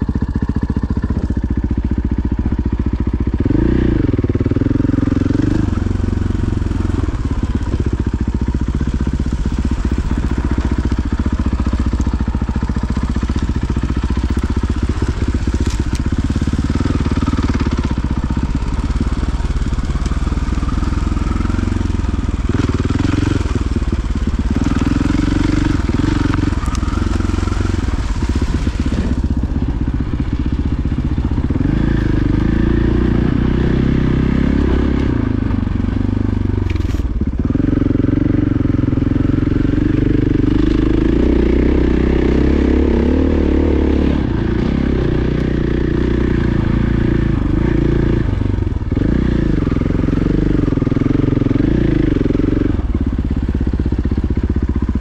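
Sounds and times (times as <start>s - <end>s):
dirt bike engine revving: 2.3s - 54.7s.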